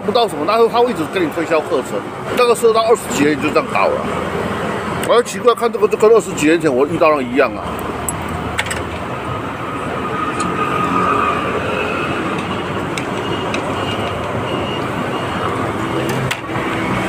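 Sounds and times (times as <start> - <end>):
large vehicle engine and road noise: 0.0 - 17.0.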